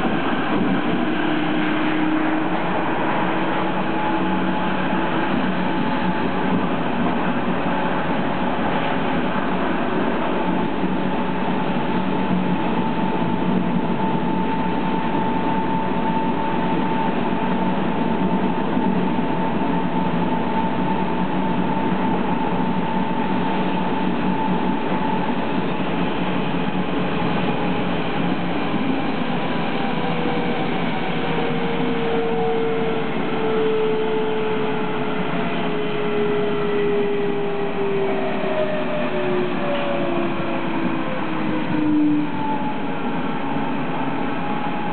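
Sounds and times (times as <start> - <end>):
train rumble and rolling noise: 0.0 - 44.9.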